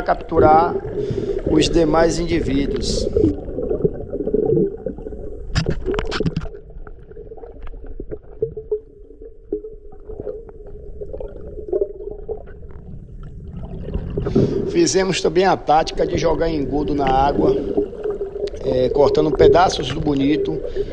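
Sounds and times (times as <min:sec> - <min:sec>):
bubbling: 0:00.0 - 0:20.9
muffled underwater rumble: 0:00.0 - 0:20.9.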